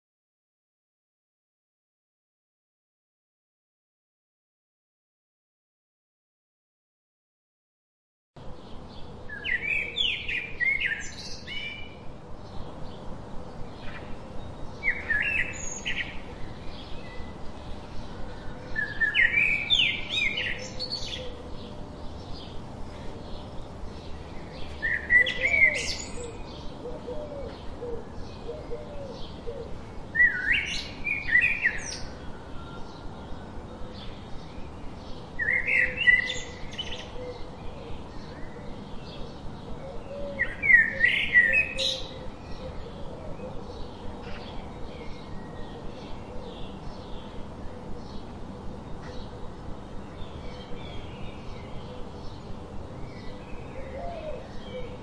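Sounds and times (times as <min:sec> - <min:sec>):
songbird chirping: 0:08.4 - 0:55.0
steady background hiss: 0:08.4 - 0:55.0.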